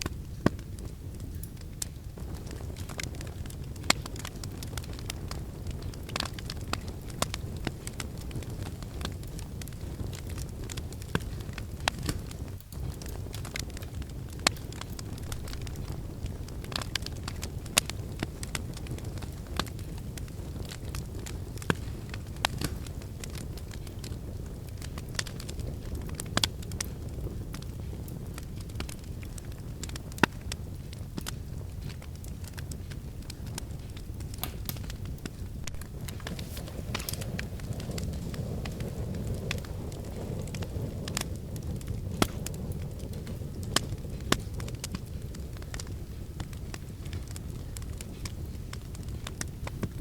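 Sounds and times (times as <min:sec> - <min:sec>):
sharp wood snaps and pops: 0:00.0 - 0:42.6, 0:43.6 - 0:47.4
fireplace fire crackling: 0:00.0 - 0:50.0
low rumble of flame: 0:00.0 - 0:50.0.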